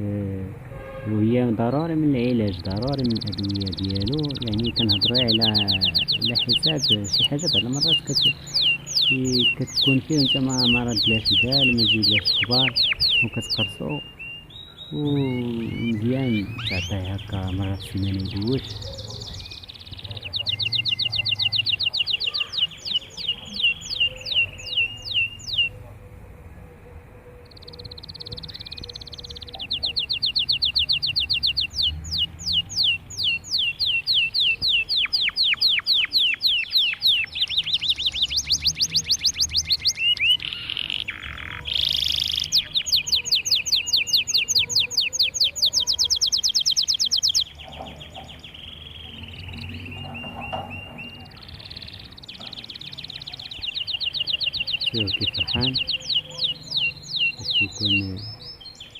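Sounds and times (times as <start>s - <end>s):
canary singing trills: 0.6s - 26.1s, 26.7s - 58.9s.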